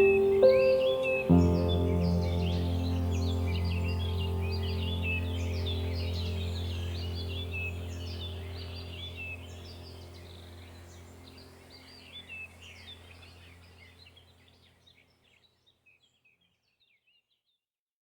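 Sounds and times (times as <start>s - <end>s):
low steady hum: 0.0s - 14.8s
birds chirping: 0.0s - 17.3s.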